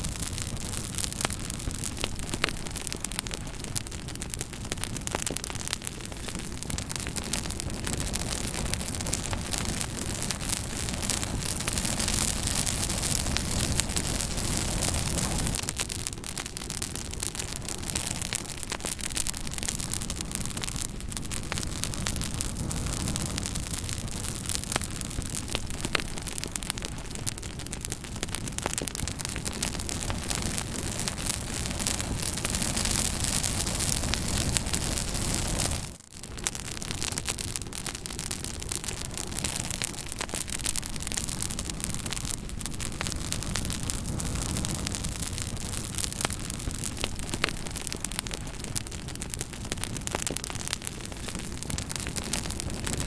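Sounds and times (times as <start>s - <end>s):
fire hissing: 0.0s - 36.0s, 36.9s - 53.0s
fire popping and snapping: 0.0s - 53.0s.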